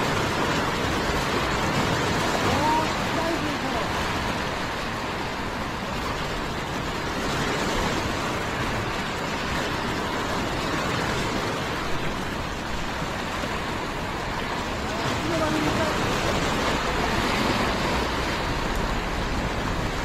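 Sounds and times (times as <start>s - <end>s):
small waves washing over rocks: 0.0s - 20.0s.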